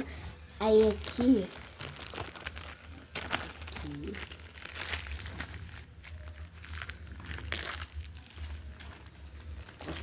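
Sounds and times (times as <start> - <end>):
paper packaging crinkling: 0.6 - 10.0.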